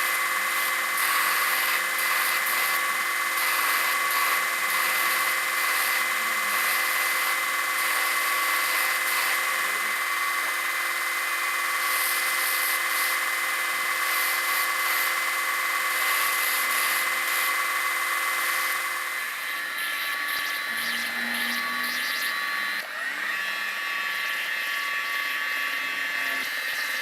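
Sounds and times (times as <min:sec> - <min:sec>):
power tool whining: 0:00.0 - 0:27.0.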